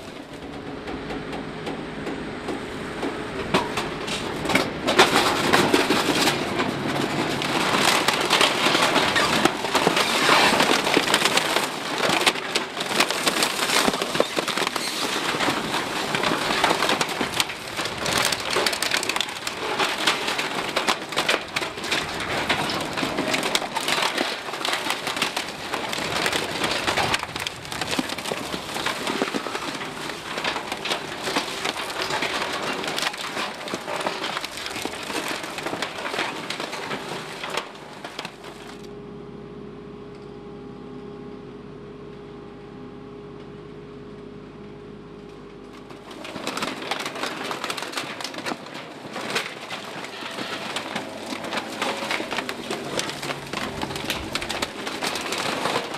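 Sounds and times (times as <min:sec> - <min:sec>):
garbage crackling under roller: 0:00.0 - 0:38.9, 0:45.4 - 0:55.9
machine hum: 0:00.0 - 0:55.9.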